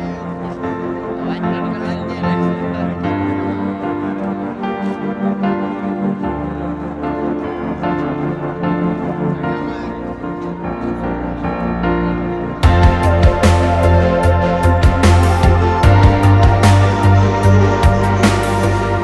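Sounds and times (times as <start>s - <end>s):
instrumental piano music: 0.0s - 19.0s.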